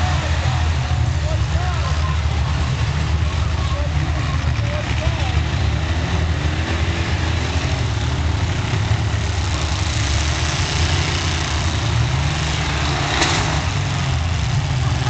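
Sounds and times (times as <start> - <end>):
car engines running: 0.0 - 15.0
engine revving: 0.0 - 15.0.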